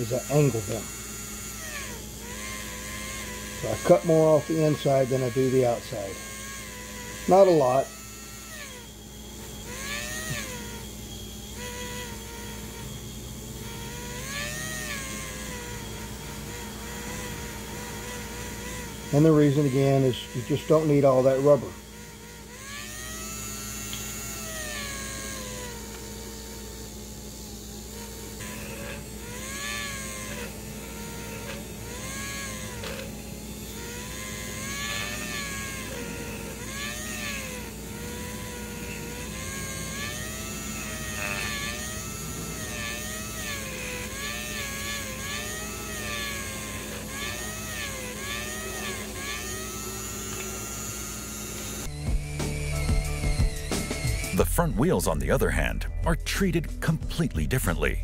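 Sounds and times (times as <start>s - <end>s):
sanding block grinding on tire: 0.0s - 10.9s, 13.6s - 26.9s, 27.8s - 54.4s
small electric motor whining: 0.0s - 55.8s.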